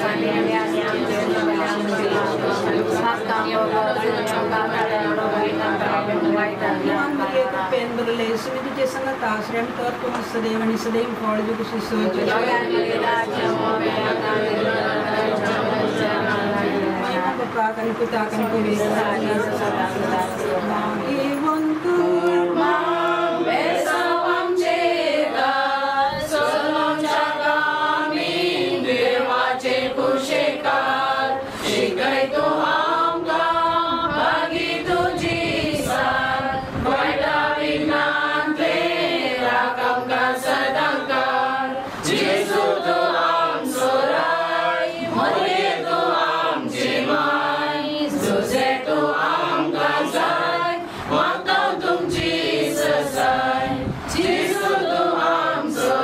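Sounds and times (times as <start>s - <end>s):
choir singing a hymn: 0.0s - 8.2s, 12.0s - 56.0s.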